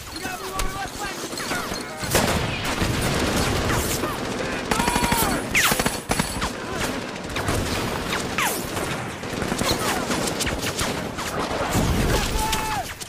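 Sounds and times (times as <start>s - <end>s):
gunshots cracking: 0.6s - 12.7s.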